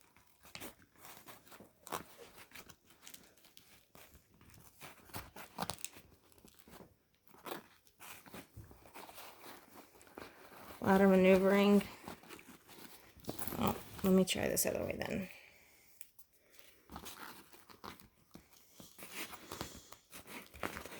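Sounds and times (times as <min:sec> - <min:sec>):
fabric rustling and crinkling: 0:00.0 - 0:20.9.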